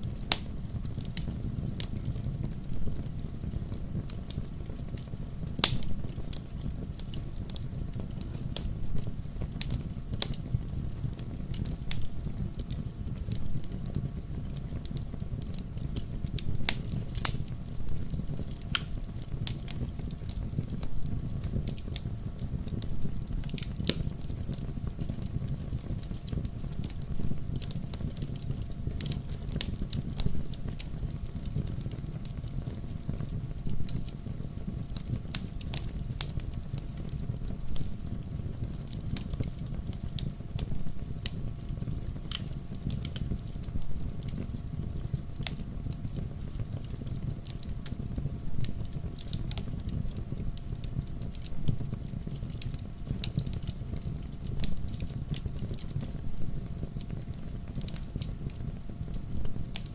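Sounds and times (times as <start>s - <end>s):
wood bonfire crackling: 0.0s - 59.9s.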